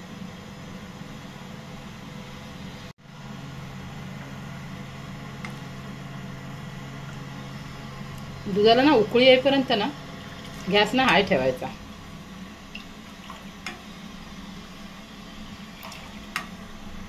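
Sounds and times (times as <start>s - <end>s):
gas burner rushing: 1.8s - 17.0s.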